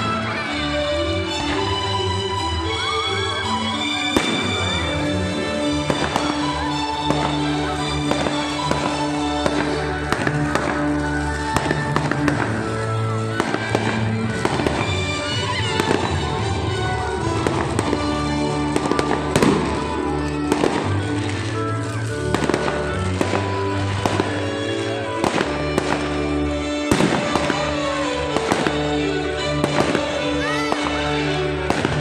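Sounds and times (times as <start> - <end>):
music: 0.0 - 32.0
fireworks bangs and crackles: 2.8 - 32.0.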